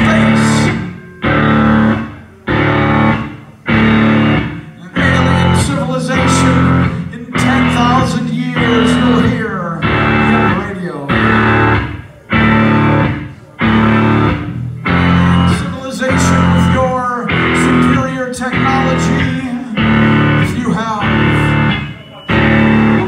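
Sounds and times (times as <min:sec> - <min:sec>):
rock band guitar and bass stabs: 0:00.0 - 0:23.0.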